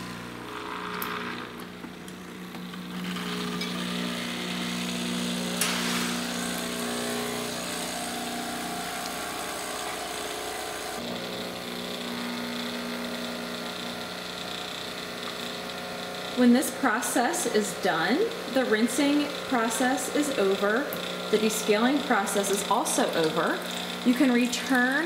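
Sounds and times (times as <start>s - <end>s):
coffee machine pump buzzing: 0.0s - 25.0s.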